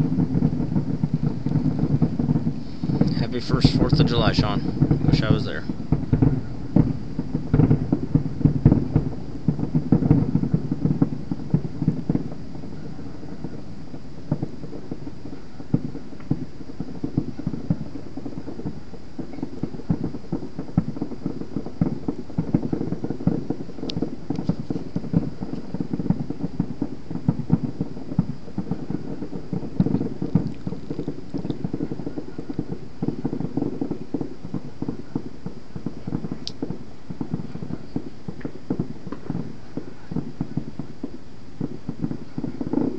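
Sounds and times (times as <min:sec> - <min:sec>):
fireworks booming and crackling: 0:00.0 - 0:42.9.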